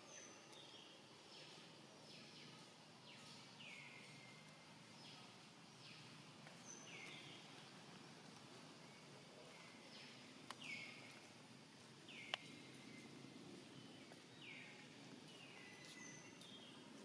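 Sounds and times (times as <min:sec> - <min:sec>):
faint forest ambience: 0:00.0 - 0:17.0.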